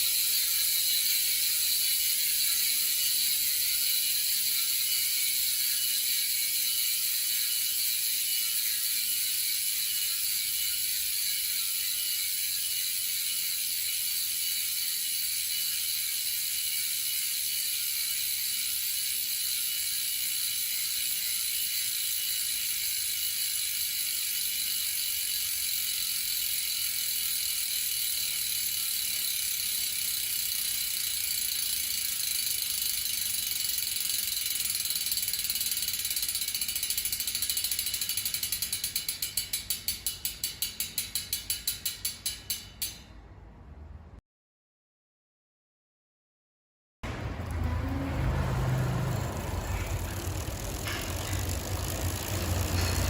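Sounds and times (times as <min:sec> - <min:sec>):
bicycle hub ratchet clicking: 0:00.0 - 0:43.1, 0:47.4 - 0:53.0.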